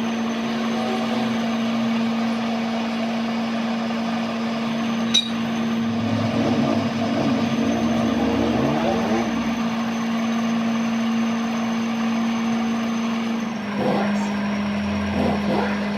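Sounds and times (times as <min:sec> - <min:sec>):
steady mechanical hum: 0:00.0 - 0:15.9.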